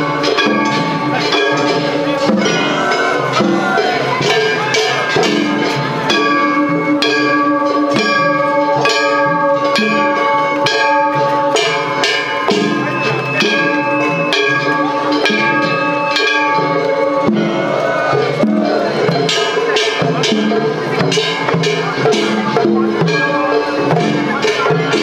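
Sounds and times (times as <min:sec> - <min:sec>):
drums beating fast: 0:00.0 - 0:25.0
hand gongs clanging: 0:00.0 - 0:25.0.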